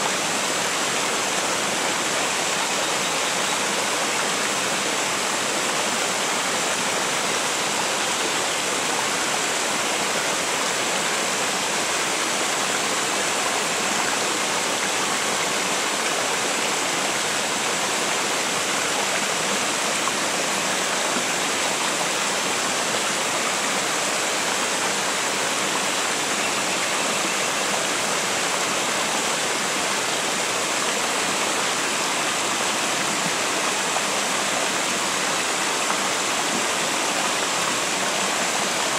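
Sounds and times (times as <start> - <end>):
water rushing over a weir: 0.0 - 38.9.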